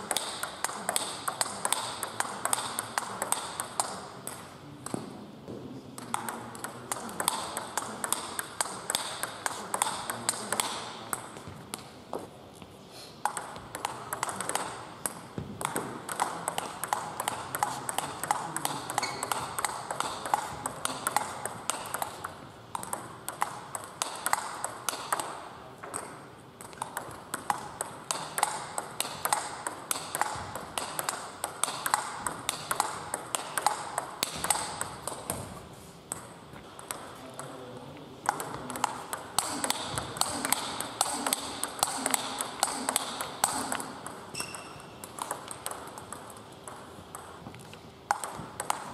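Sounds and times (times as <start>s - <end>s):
table tennis ball clicks: 0.0s - 12.3s, 13.2s - 37.6s, 38.2s - 48.9s.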